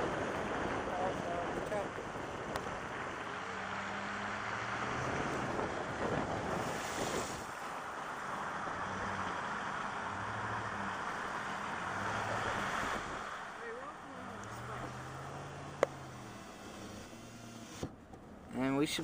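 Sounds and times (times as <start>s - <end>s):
low engine hum: 0.0s - 18.8s.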